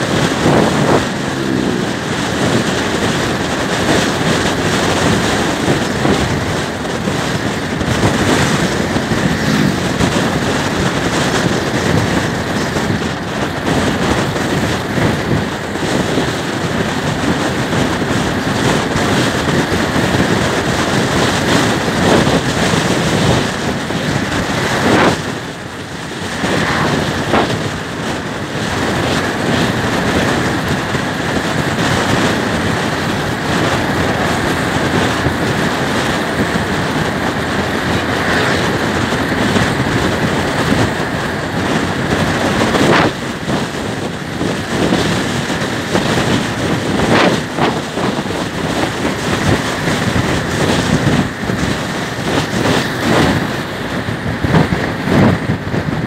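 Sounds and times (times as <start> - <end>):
road noise: 0.0 - 56.0
scooter engine running: 0.0 - 56.0
wind on microphone: 0.0 - 56.0.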